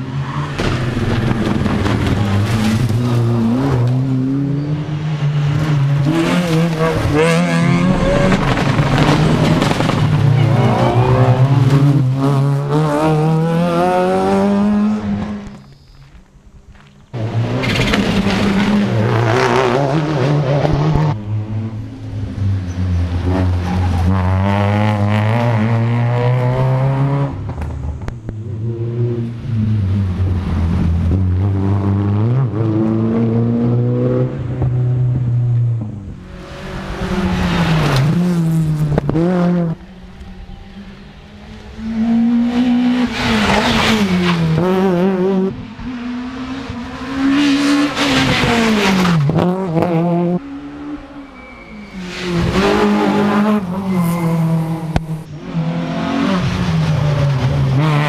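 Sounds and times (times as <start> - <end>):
rally car engines revving: 0.0 - 15.8, 17.1 - 58.0.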